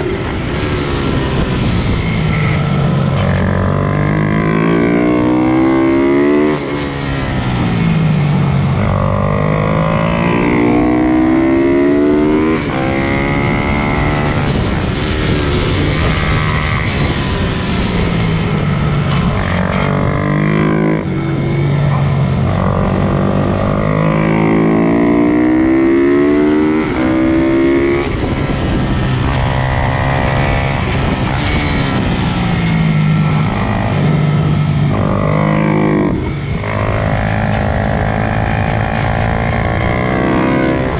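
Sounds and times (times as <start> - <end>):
motorbike engines revving: 0.0 - 40.9.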